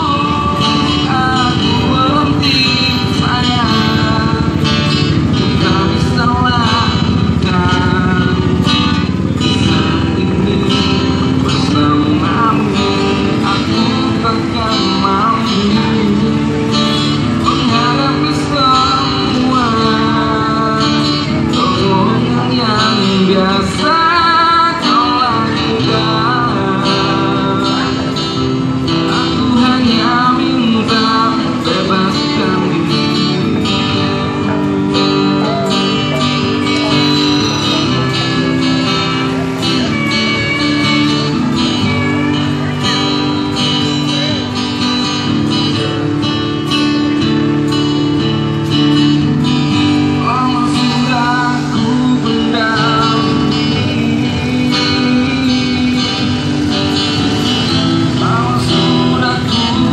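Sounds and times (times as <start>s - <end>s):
man singing pop ballad: 0.0s - 46.2s, 49.6s - 59.9s
acoustic guitar strumming: 0.0s - 59.9s.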